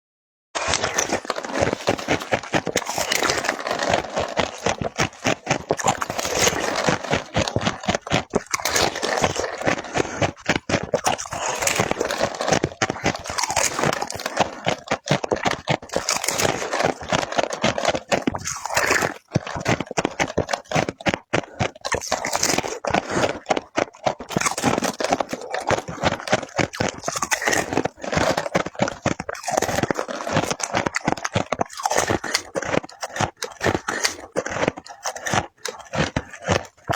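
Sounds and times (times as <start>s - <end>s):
ice being chewed: 0.6s - 36.9s.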